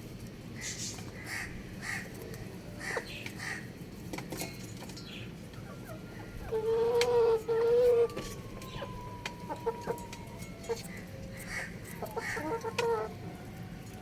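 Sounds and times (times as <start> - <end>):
chickens calling harshly: 0.6 - 4.4, 5.2 - 13.2.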